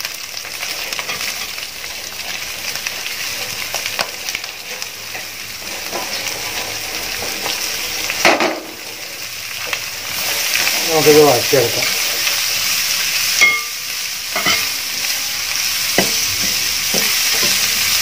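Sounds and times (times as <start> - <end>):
hot oil sizzling in a pot: 0.0 - 18.0.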